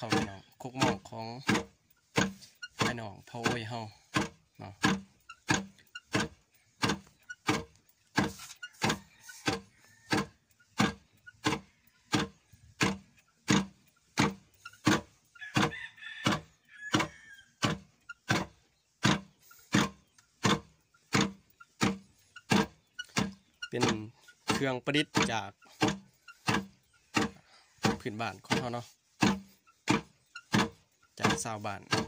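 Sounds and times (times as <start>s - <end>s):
rice pounder knocking in mortar: 0.0s - 32.0s.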